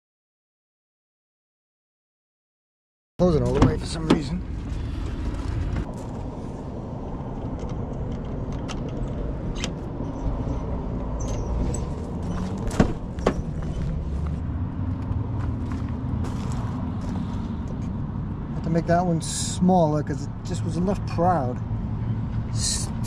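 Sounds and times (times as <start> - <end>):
low outdoor rumble: 3.2 - 23.0.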